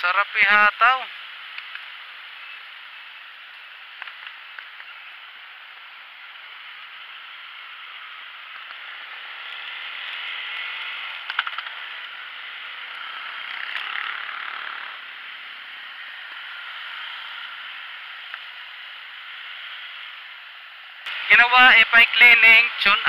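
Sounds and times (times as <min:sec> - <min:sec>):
wind and road noise: 0:00.0 - 0:23.0
motorcycle running noise: 0:01.1 - 0:21.2.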